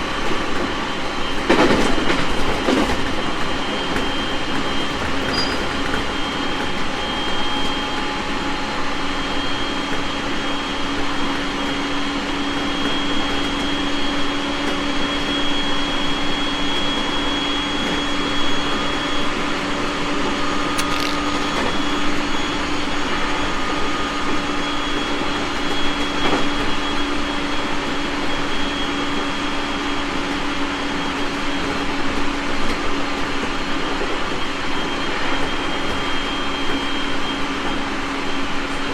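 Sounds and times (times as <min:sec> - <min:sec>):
electric train running: 0:00.0 - 0:38.9.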